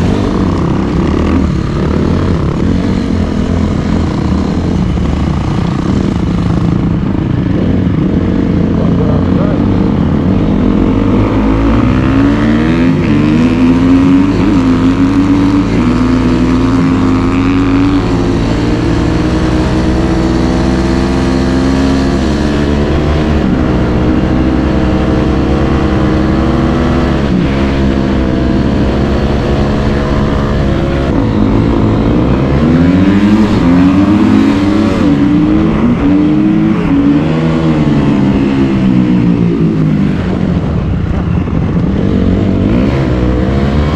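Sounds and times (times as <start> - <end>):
dirt bike engine: 0.0 - 43.9.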